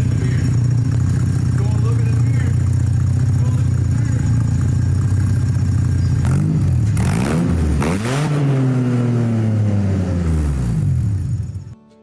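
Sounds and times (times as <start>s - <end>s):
car engine idling and revving: 0.0s - 11.8s.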